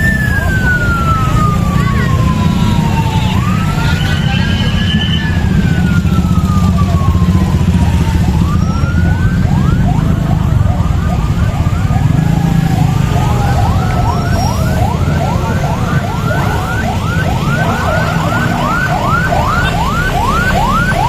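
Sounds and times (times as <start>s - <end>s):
electronic siren wailing: 0.0s - 21.0s.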